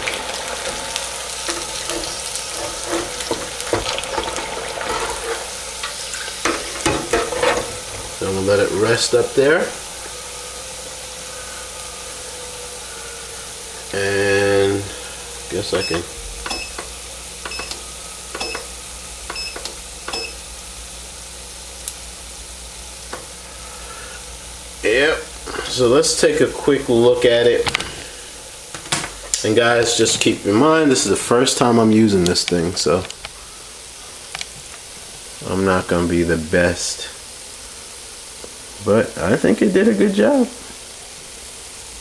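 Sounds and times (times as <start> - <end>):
oil sizzling in deep fryer: 0.0 - 42.0.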